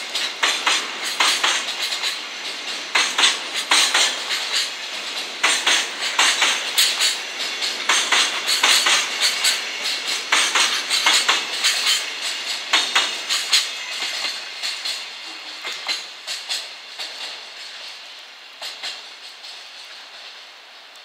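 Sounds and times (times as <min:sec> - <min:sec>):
steel wheels clattering over rail joints: 0:00.0 - 0:21.0
train rolling hiss: 0:00.0 - 0:21.0.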